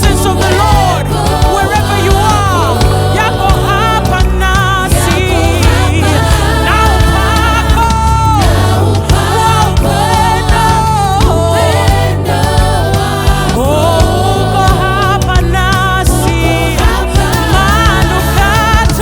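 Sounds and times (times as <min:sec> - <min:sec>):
band with bass and beat: 0:00.0 - 0:19.0
gospel choir singing: 0:00.0 - 0:19.0.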